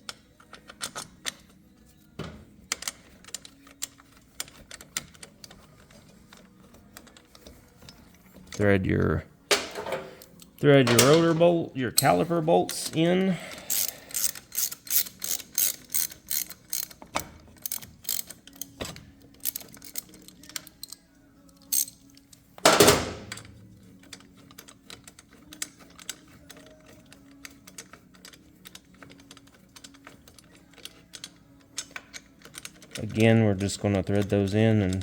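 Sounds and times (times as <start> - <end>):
metallic clicking of tools: 0.0 - 1.6, 2.2 - 8.6, 9.5 - 35.0.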